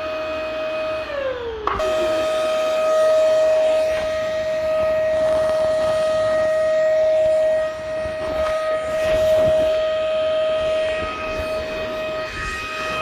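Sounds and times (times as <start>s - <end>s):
vacuum cleaner motor whine: 0.0s - 13.0s
rushing air noise: 2.3s - 13.0s.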